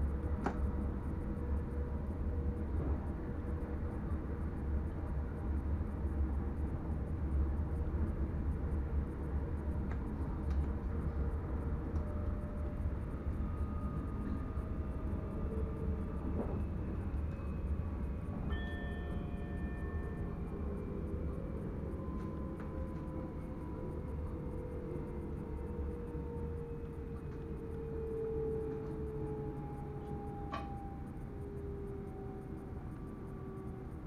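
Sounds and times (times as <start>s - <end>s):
electric train rumbling on track: 0.0s - 34.0s
faint steady tones: 0.0s - 34.0s.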